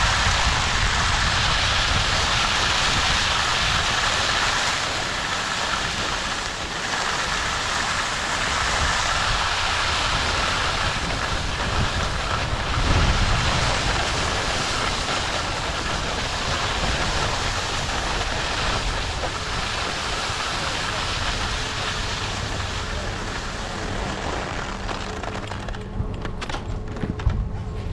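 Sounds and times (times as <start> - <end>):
skis scraping over snow: 0.0 - 25.8
wind buffeting microphone: 0.0 - 27.9.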